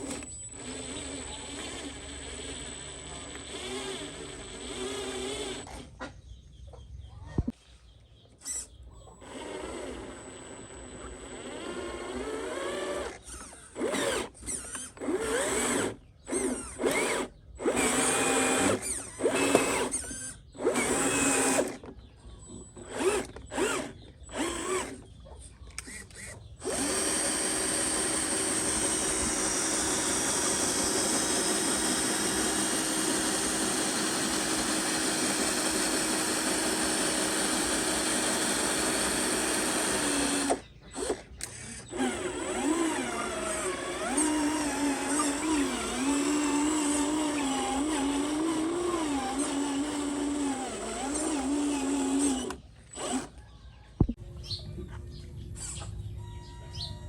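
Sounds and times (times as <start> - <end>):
small electric motors whirring: 0.0 - 6.0, 8.3 - 53.4.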